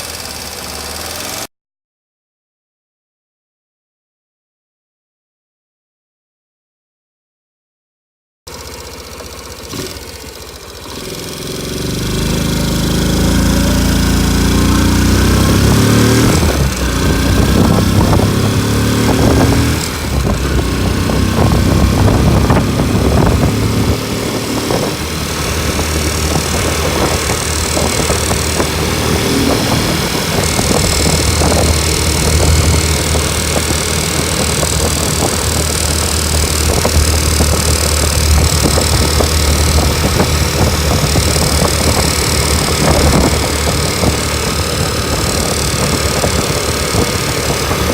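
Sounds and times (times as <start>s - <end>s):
motorcycle engine revving: 0.0s - 1.5s, 8.5s - 47.9s.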